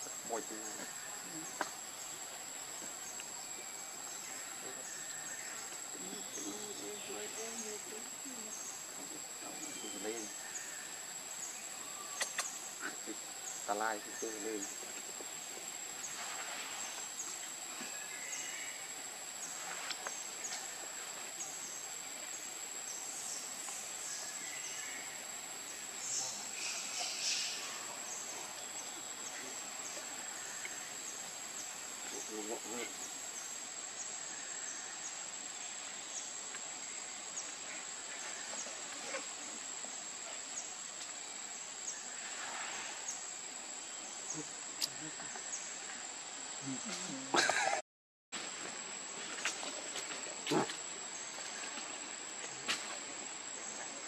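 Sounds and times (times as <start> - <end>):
insects droning: 0.0 - 47.8, 48.4 - 54.0.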